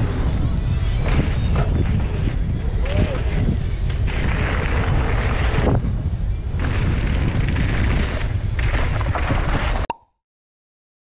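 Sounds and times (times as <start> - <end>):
bike tyres rumbling on gravel: 0.0 - 9.8
wind roar on microphone: 0.0 - 9.8.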